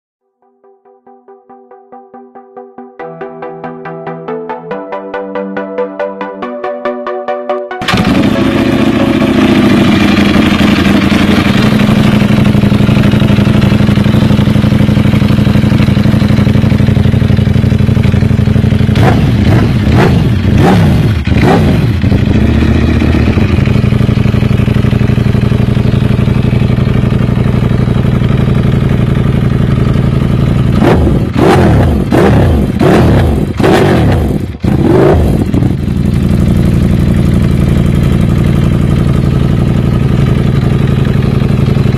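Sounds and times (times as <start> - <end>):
engine throttle blips: 7.8 - 41.9
motorcycle engine idling: 7.8 - 41.9.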